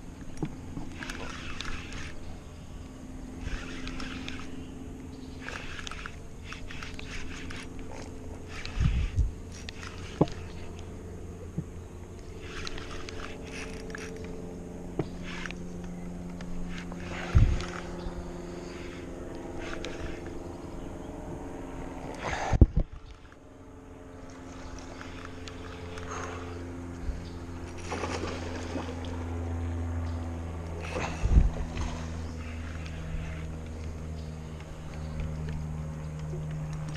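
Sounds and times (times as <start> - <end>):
engine droning: 0.0 - 36.9.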